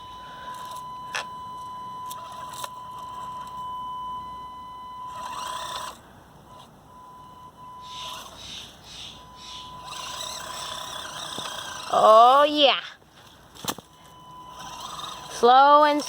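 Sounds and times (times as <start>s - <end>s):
whirring and scraping: 0.0s - 3.8s, 4.8s - 16.0s
small motor whining: 0.4s - 3.7s, 4.3s - 12.8s, 13.6s - 16.0s.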